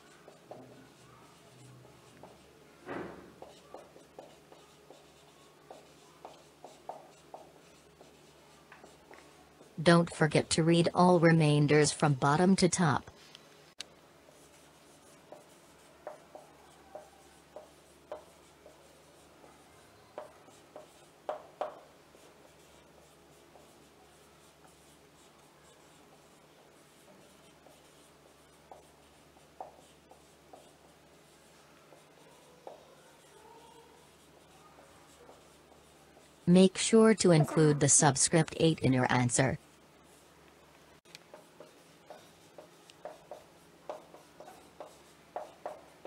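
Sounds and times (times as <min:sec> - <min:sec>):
marker squeaking on whiteboard: 0:00.0 - 0:10.0, 0:14.3 - 0:40.3, 0:41.2 - 0:46.0.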